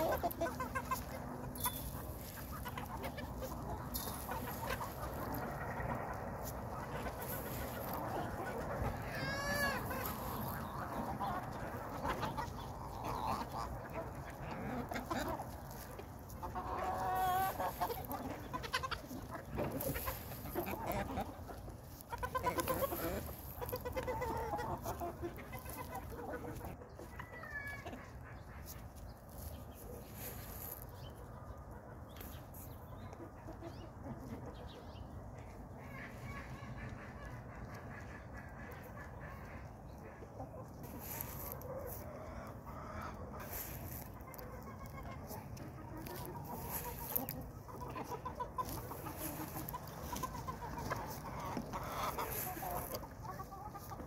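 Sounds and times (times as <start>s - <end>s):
hens clucking and calling: 0.0s - 54.0s.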